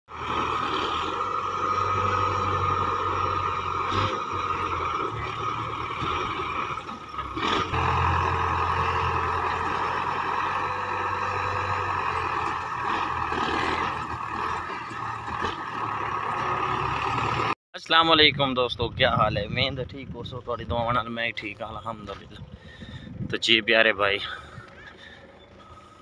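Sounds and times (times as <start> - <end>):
tractor diesel engine under load: 0.1 - 26.0.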